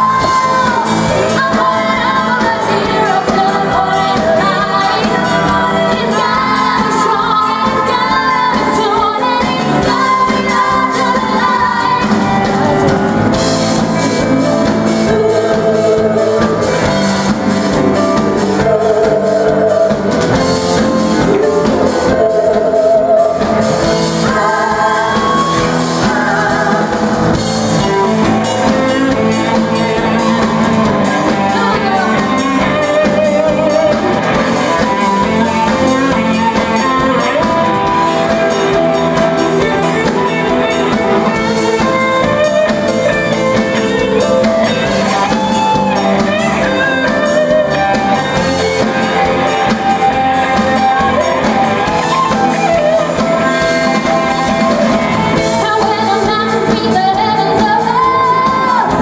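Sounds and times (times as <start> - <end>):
drum kit: 0.0 - 59.0
guitar: 0.0 - 59.0
person singing lead vocals: 0.0 - 59.0.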